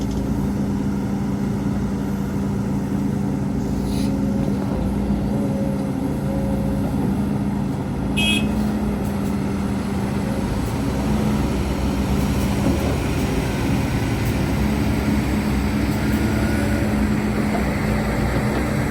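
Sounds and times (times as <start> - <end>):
heavy diesel machinery running: 0.0 - 18.9.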